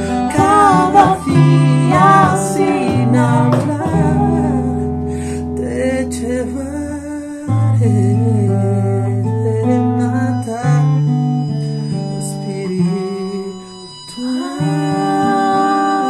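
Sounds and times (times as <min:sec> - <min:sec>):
harmonica: 0:00.0 - 0:05.9, 0:08.2 - 0:16.0
acoustic guitar band music: 0:00.0 - 0:16.0
wordless singing: 0:00.0 - 0:16.0.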